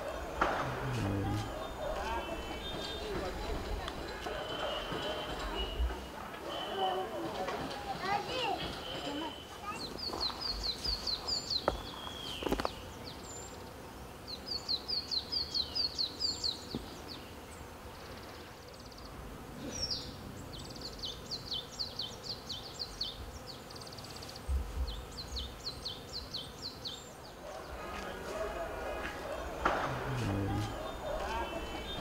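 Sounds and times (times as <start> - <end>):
faint outdoor hiss: 0.0 - 32.0
small bird singing: 0.0 - 32.0.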